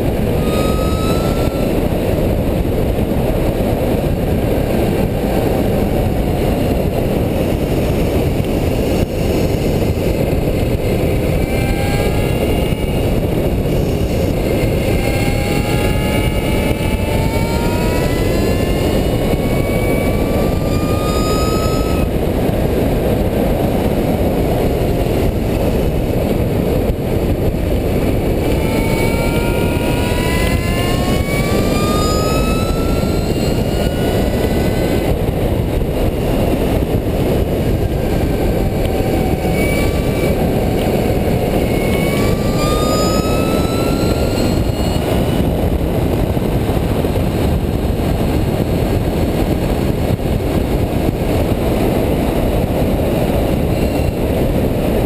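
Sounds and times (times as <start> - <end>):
electric motor whine: 0.0 - 55.0
wind rushing on microphone: 0.0 - 55.0.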